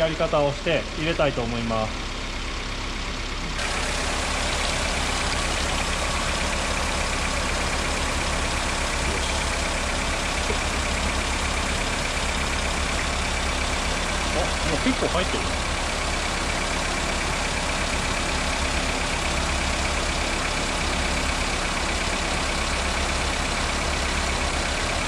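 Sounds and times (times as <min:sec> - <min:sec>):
air-conditioning compressor running: 0:00.0 - 0:25.0
car engine idling: 0:00.0 - 0:25.0.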